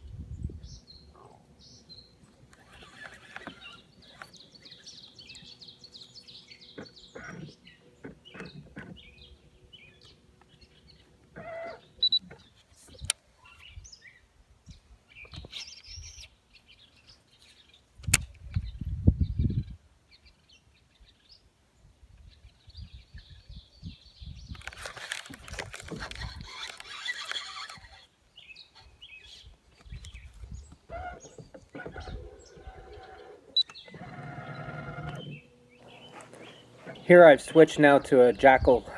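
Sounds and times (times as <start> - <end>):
small birds chirping: 0.0 - 21.5, 22.2 - 38.9.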